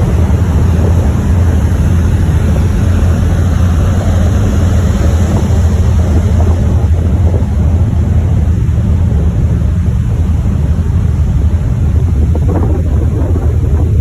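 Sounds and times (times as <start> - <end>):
ferry engine rumble: 0.0 - 14.0
wind on microphone: 0.0 - 14.0.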